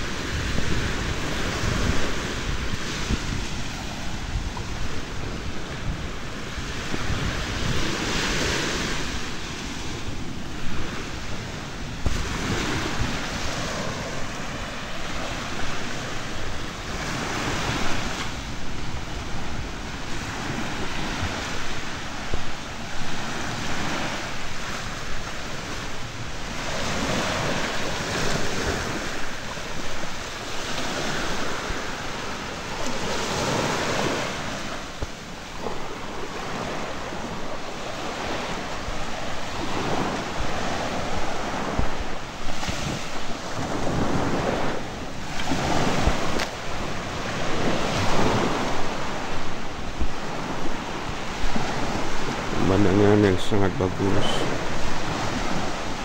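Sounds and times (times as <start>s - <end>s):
small waves washing onto beach: 0.0s - 56.0s
wind rumbling on microphone: 0.0s - 56.0s.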